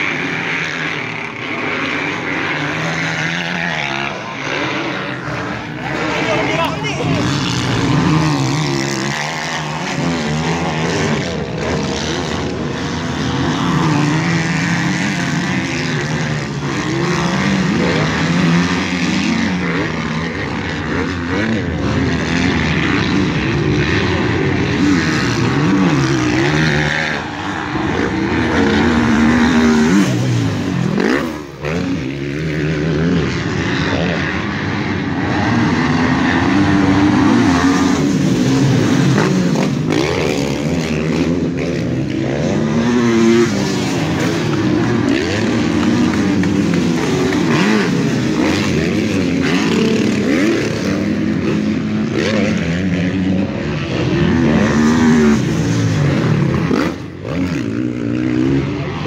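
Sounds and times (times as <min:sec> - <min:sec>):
motocross bike engines racing: 0:00.0 - 0:59.0.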